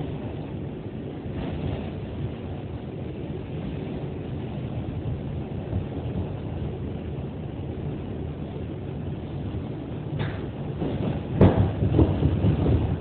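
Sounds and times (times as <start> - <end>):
subway train wheels rumbling on rails: 0.0 - 13.0.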